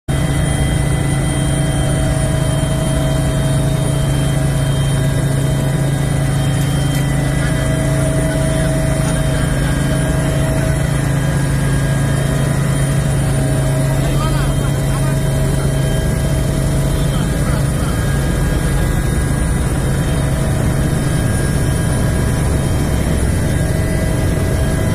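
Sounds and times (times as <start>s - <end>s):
helicopter cabin drone: 0.1s - 24.9s
high whine: 0.1s - 24.9s.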